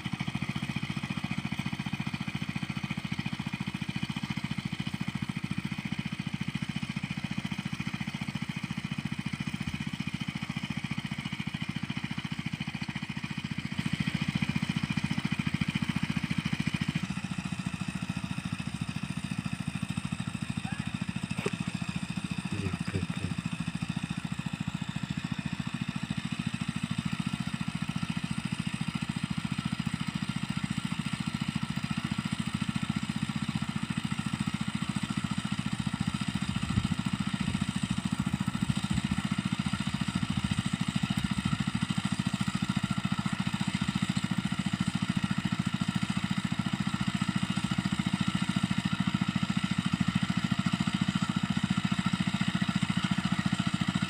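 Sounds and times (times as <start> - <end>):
tiller engine running: 0.0 - 54.0.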